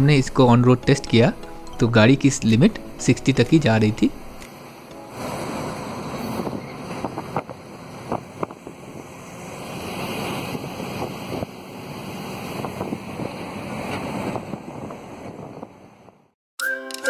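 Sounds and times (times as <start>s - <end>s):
truck engine and road noise: 0.0s - 16.4s.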